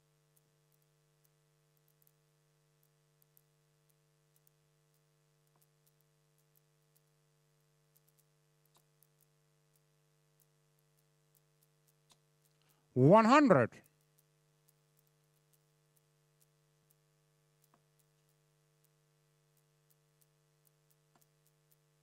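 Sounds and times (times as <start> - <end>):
faint ticks: 0.0 - 12.9, 13.8 - 22.0.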